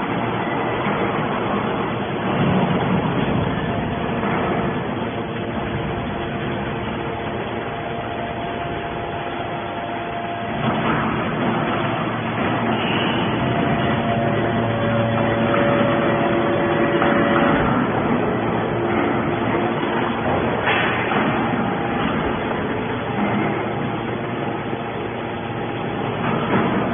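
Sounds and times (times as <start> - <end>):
hydraulic baler humming: 0.0 - 26.9.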